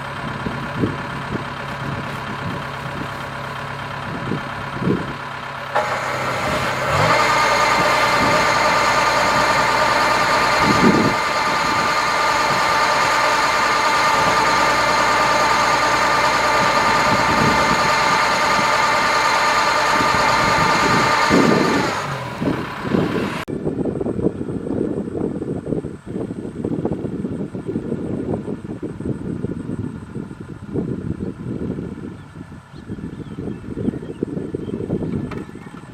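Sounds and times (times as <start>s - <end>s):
combine harvester diesel engine: 0.0s - 35.9s.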